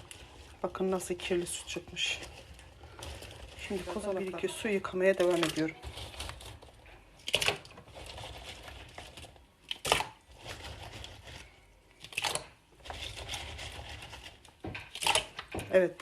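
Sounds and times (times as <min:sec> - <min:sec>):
cones knocking together: 0:00.0 - 0:16.0
pine cones washed in water: 0:00.0 - 0:16.0.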